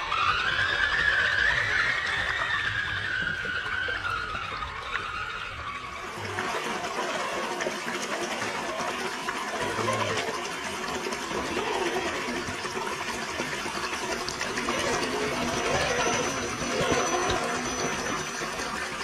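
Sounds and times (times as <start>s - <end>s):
electric motor whine: 0.0s - 19.0s
water splashing and gurgling: 0.0s - 19.0s.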